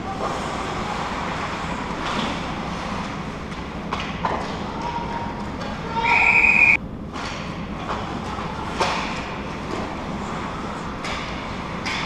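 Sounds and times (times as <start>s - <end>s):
ice rink game noise: 0.0s - 12.0s.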